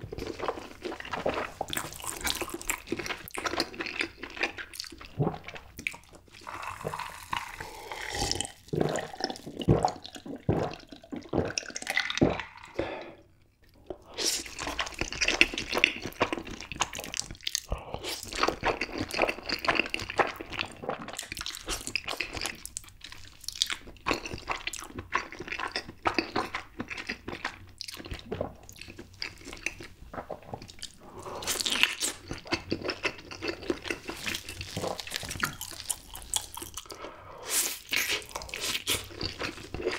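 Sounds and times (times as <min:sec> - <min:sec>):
slurping and chewing noodles: 0:00.0 - 0:13.0, 0:13.8 - 0:39.9.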